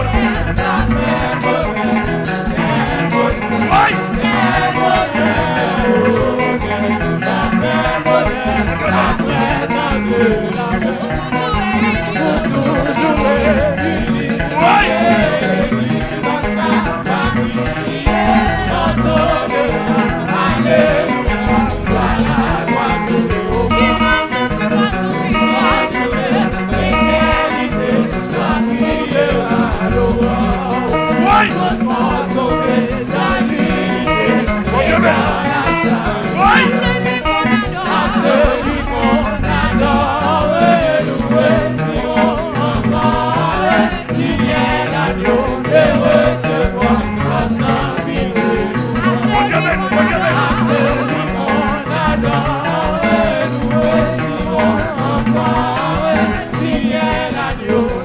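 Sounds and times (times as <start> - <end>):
bass: 0.0 - 58.0
drum kit: 0.0 - 58.0
electric guitars: 0.0 - 58.0
keyboard: 0.0 - 58.0
voices singing: 0.0 - 58.0.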